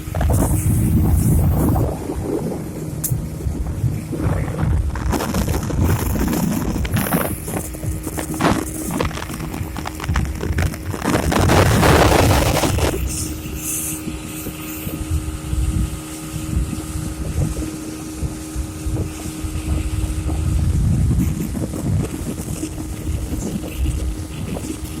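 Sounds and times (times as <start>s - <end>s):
outboard motor running: 0.0s - 25.0s
wind buffeting microphone: 0.0s - 25.0s.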